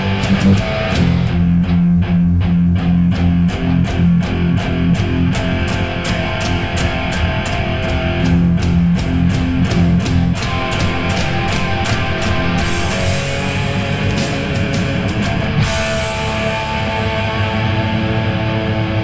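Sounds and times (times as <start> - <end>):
electric guitar rock riff: 0.0 - 19.0.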